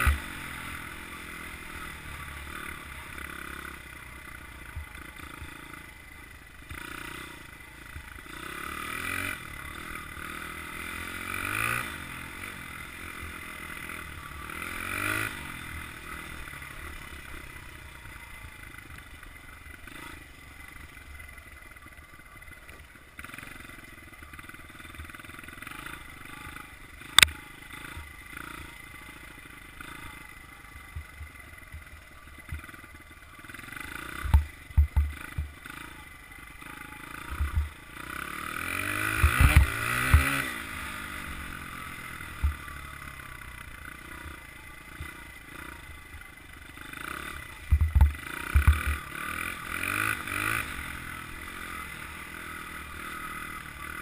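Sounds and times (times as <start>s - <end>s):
dirt bike engine revving: 0.0s - 21.9s, 23.2s - 54.0s.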